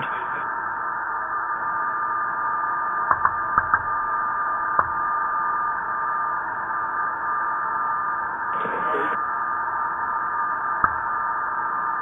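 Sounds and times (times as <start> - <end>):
radio channel hiss: 0.0 - 12.0.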